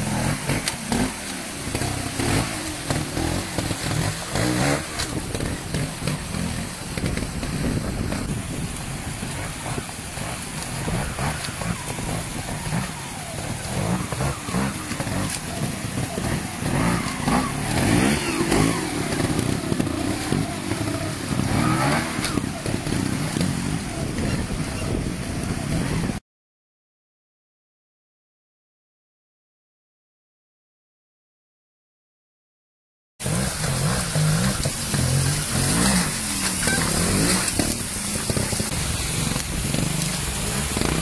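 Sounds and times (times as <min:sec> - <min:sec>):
motorcycle engines revving: 0:00.0 - 0:26.2, 0:33.2 - 0:41.0.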